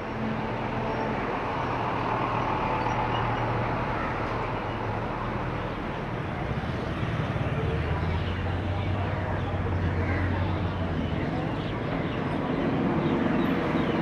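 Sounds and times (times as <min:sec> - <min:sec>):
street traffic hum: 0:00.0 - 0:14.0.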